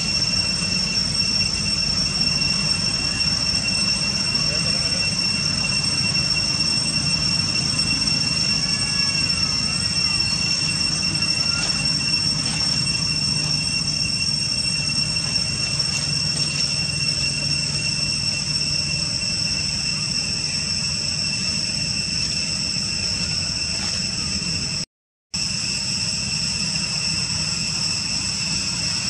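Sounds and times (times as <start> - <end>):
insect chorus drone: 0.0 - 24.8, 25.4 - 29.0.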